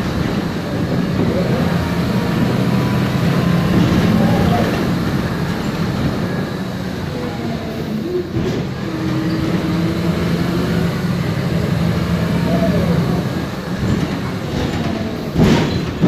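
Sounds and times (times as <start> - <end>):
bus engine drone: 0.0 - 16.0
road and cabin noise: 0.0 - 16.0.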